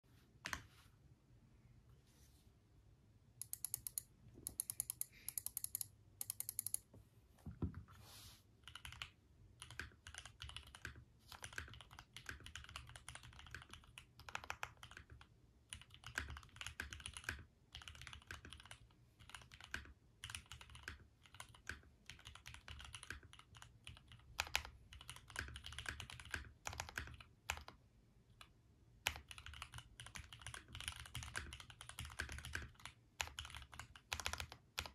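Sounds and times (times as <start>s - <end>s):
mechanical keyboard typing: 3.4s - 6.9s, 8.6s - 34.9s.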